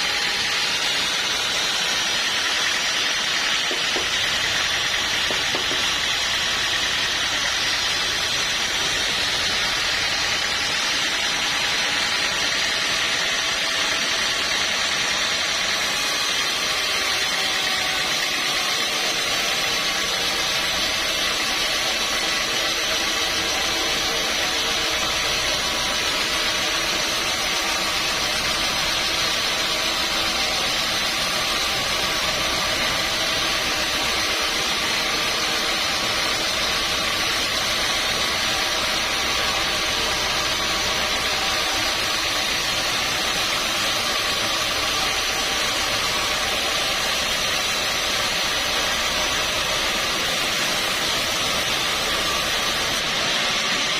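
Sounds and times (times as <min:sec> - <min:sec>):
sawmill machinery running: 0:00.0 - 0:53.9
steady whining tones: 0:00.0 - 0:53.9.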